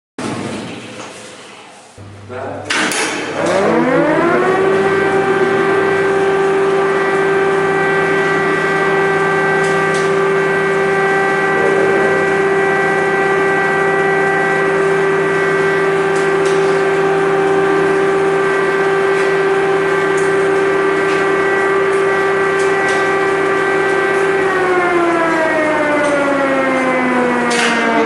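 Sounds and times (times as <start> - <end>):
air-raid siren steady pitch: 3.4 - 28.0.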